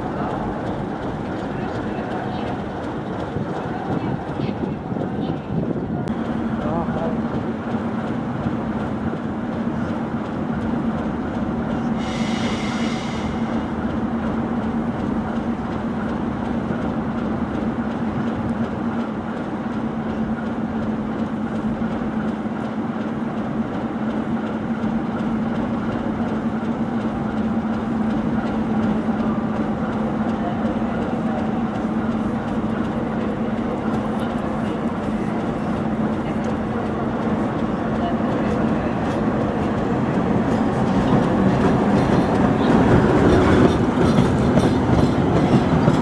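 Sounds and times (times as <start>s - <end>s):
electric locomotive humming: 0.0s - 46.0s.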